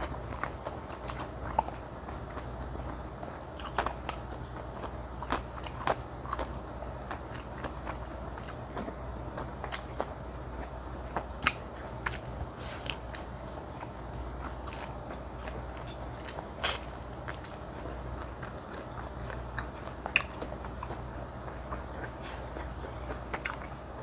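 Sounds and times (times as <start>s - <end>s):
soft chewing: 0.0s - 24.0s.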